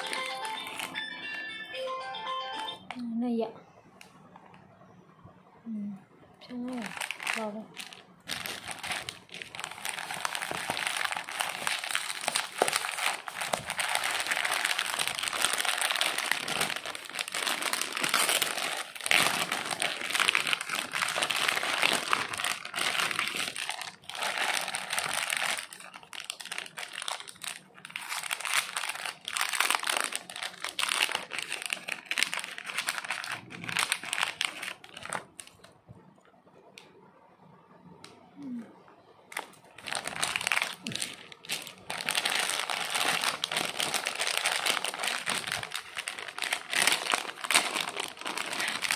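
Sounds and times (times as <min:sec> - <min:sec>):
plastic packaging crinkling: 0:00.0 - 0:01.2, 0:06.6 - 0:35.8, 0:39.3 - 0:48.9.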